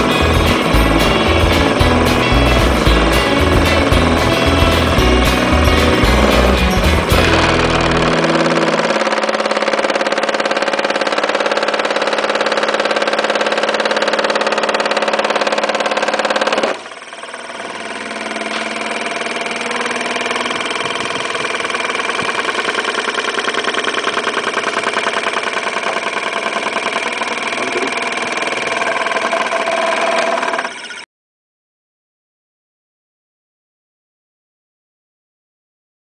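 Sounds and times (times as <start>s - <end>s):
small electric motor whirring: 0.0s - 31.1s.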